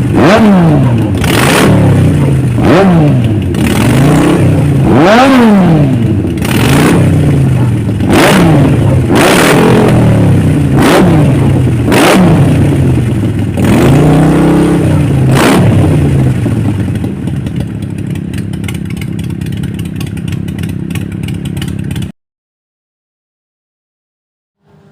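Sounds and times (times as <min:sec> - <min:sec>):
motorcycle engine revving and idling: 0:00.0 - 0:22.2.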